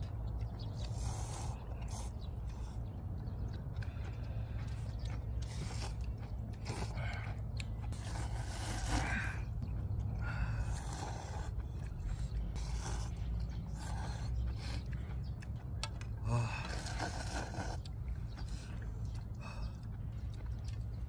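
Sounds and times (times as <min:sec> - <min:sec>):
steady low rumble: 0:00.0 - 0:21.0
people slurping noodles: 0:00.5 - 0:15.2, 0:16.0 - 0:18.8.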